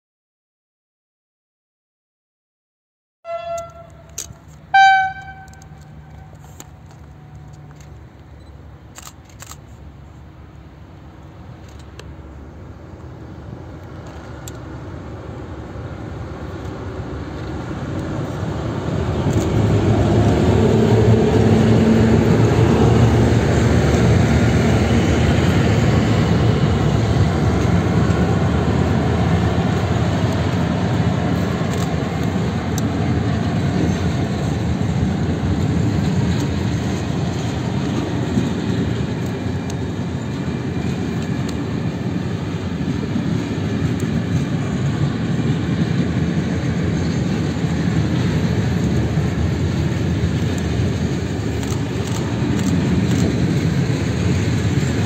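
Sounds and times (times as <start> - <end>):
diesel locomotive engine drone: 3.3 - 55.0.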